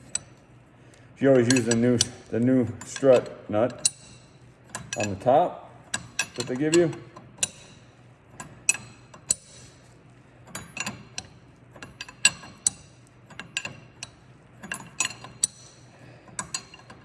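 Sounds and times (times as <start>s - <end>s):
wrenches clinking on metal: 0.0s - 0.4s, 1.3s - 17.0s.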